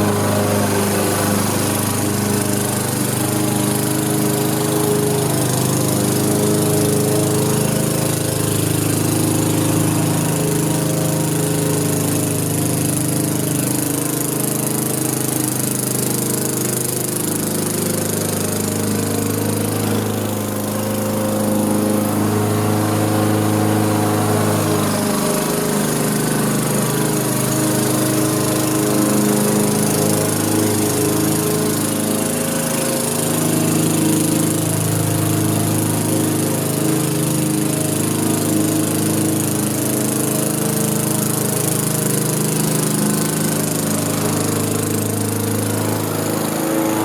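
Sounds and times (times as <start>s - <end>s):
lawnmower cutting grass: 0.0s - 47.0s.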